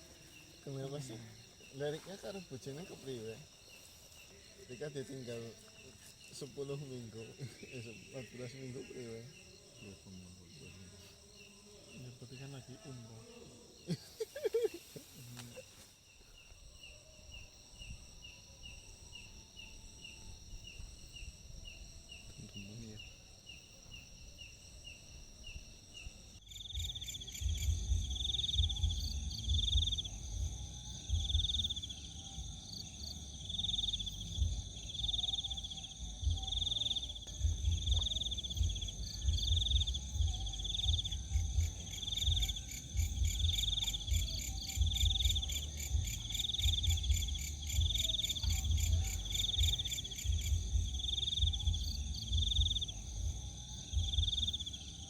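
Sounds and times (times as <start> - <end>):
crickets trilling: 0.0 - 55.0
insect chirp: 0.0 - 55.0.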